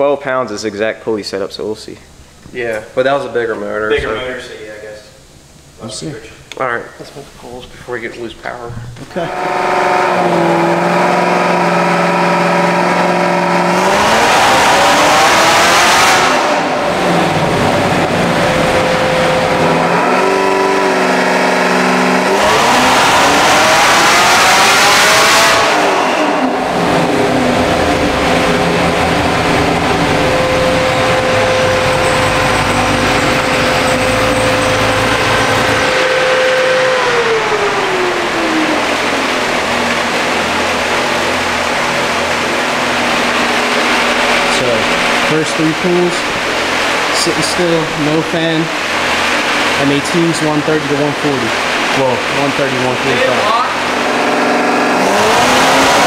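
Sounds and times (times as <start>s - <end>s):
supercharged car engine revving: 9.1s - 56.0s.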